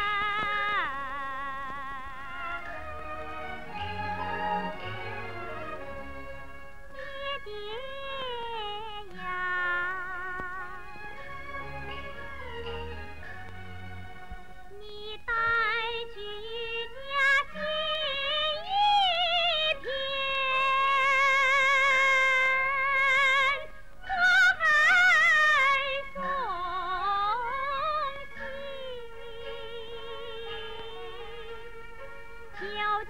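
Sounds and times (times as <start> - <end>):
woman singing operatically: 0.0 - 5.9, 6.9 - 11.3, 14.7 - 33.0.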